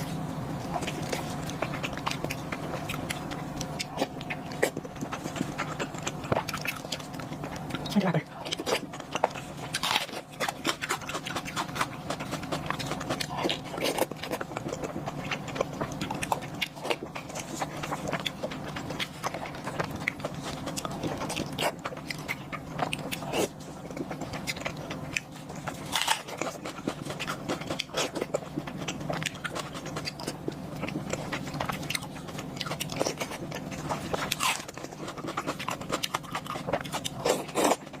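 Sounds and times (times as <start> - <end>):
low hum: 0.0 - 37.2
person chewing food: 0.0 - 38.0.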